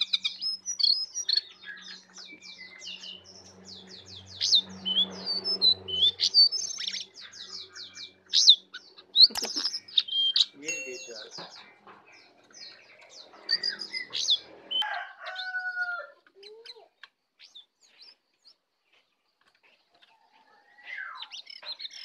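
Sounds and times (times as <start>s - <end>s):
songbirds chirping and whistling: 0.0s - 22.0s.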